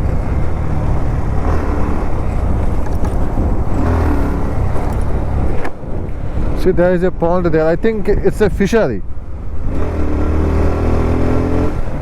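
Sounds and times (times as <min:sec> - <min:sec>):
motorcycle engine rumbling: 0:00.0 - 0:10.4.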